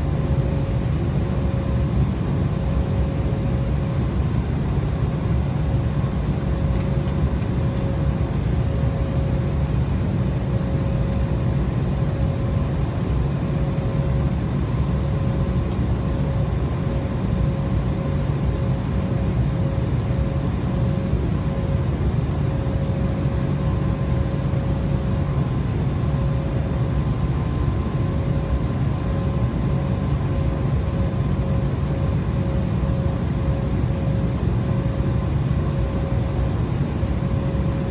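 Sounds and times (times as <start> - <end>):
airliner cabin engine drone: 0.0 - 37.9.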